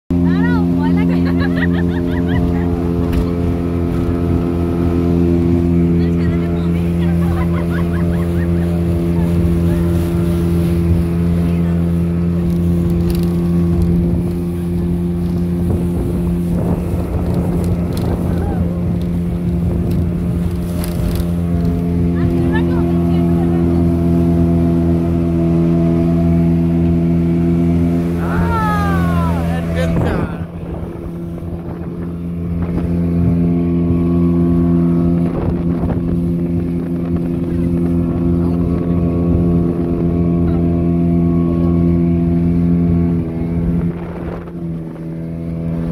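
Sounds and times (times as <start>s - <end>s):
outboard motor running: 0.1s - 45.9s
speedboat engine humming: 0.1s - 45.9s
wind buffeting microphone: 0.5s - 45.9s.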